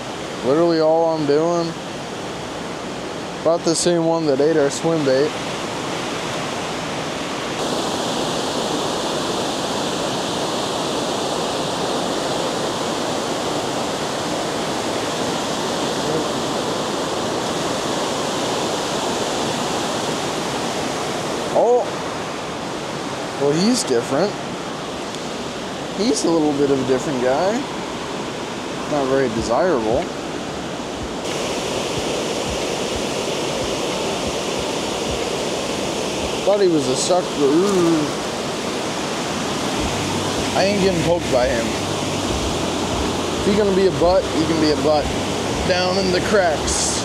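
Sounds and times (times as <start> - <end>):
water rushing over spillway: 0.0 - 47.0.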